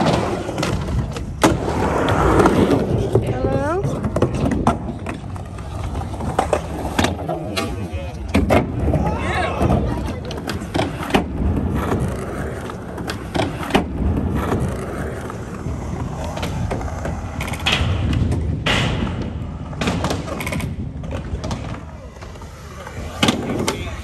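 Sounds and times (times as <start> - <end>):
skateboard clacking: 0.0 - 24.0
skateboard wheels rolling on concrete: 0.0 - 24.0.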